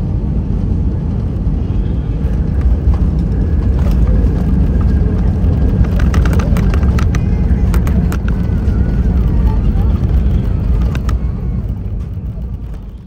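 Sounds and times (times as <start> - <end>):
airplane engines and airflow rumble: 0.0 - 13.0.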